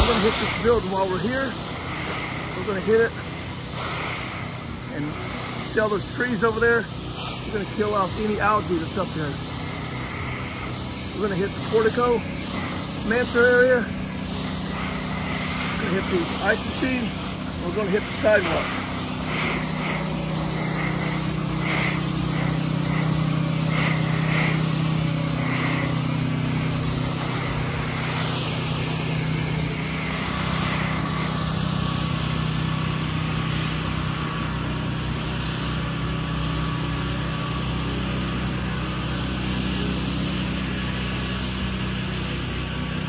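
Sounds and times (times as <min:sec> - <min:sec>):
pressure washer engine running: 0:00.0 - 0:43.0
water spray hissing: 0:00.0 - 0:43.0.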